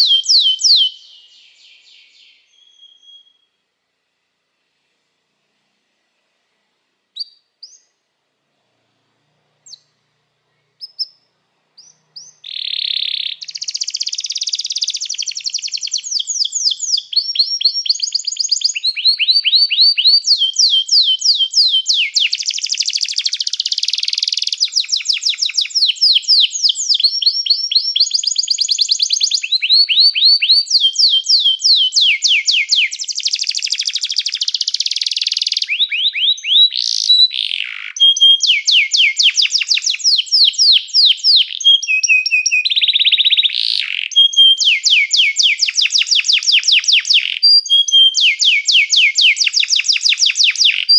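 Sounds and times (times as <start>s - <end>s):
canary singing trills: 0.0s - 3.6s, 7.2s - 8.0s, 9.6s - 50.9s.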